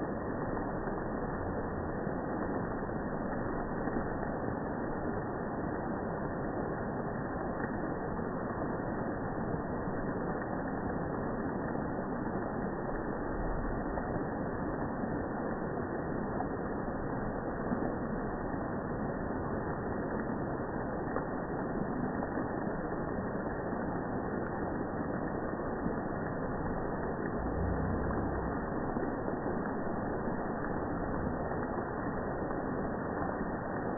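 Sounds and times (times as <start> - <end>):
slowed rain and dripping water: 0.0 - 33.9.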